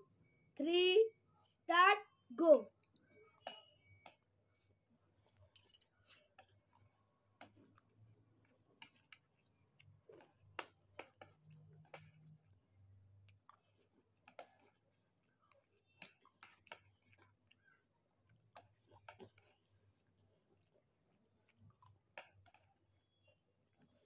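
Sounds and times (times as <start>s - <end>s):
chewing: 2.8s - 24.0s.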